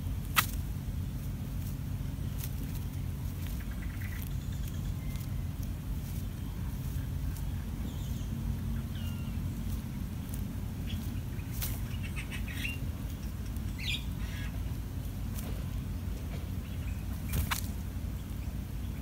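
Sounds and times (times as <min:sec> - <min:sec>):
low background rumble: 0:00.0 - 0:19.0
small birds chirping: 0:00.0 - 0:19.0.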